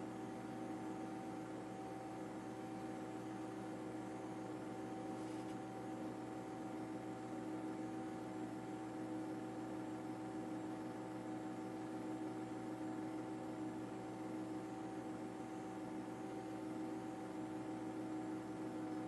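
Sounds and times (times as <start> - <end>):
machine hum with fixed tones: 0.0 - 19.0.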